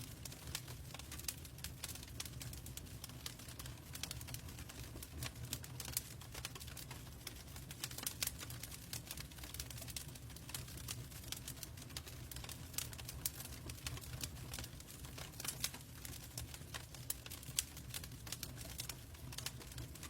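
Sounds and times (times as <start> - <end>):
low fire rumble: 0.0 - 20.0
wood crackling and popping: 0.0 - 20.0.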